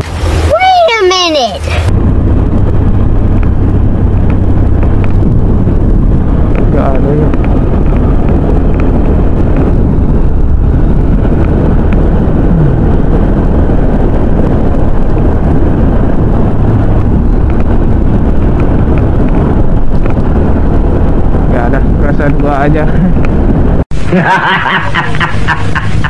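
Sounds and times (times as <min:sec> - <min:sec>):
wind and road noise: 0:00.0 - 0:26.0
motorcycle engine running: 0:01.8 - 0:23.8.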